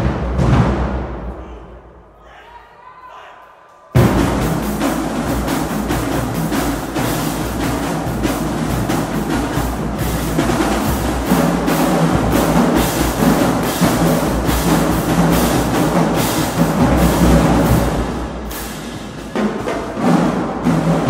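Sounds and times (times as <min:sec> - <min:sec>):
snare drums: 0:00.0 - 0:01.6, 0:04.0 - 0:21.0
tenor drums: 0:00.0 - 0:01.9, 0:03.9 - 0:21.0
bass drums: 0:04.0 - 0:21.0.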